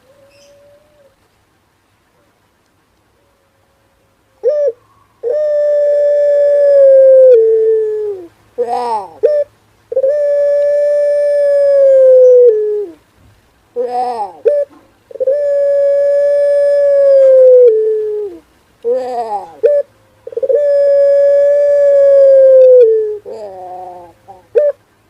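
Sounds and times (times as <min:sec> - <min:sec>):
dove cooing: 0:00.0 - 0:01.2, 0:04.4 - 0:13.0, 0:13.8 - 0:24.8.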